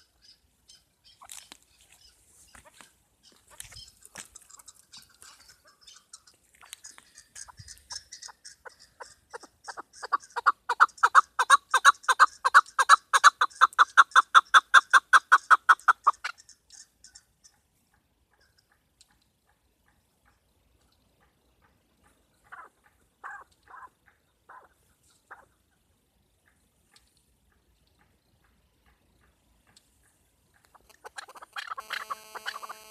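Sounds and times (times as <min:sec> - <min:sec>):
partridge clucking calls: 0:00.0 - 0:32.9.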